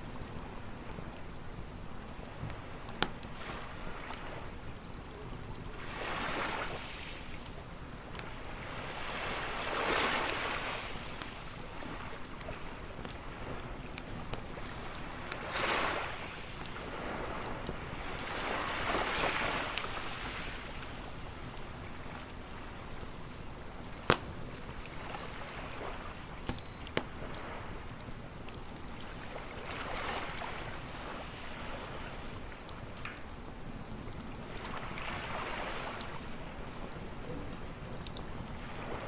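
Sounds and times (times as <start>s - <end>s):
campfire crackling and popping: 0.0s - 39.0s
waves washing onto beach: 0.0s - 39.0s.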